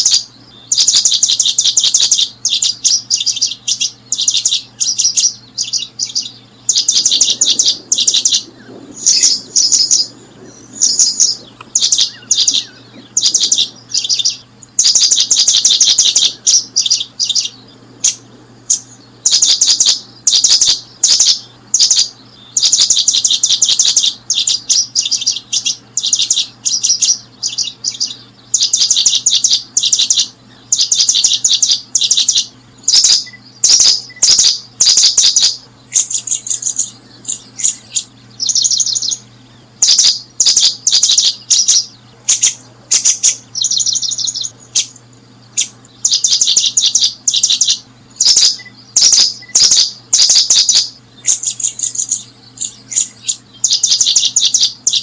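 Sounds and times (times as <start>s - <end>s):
bird chirping: 0.0s - 55.0s
faint low hum: 0.0s - 55.0s.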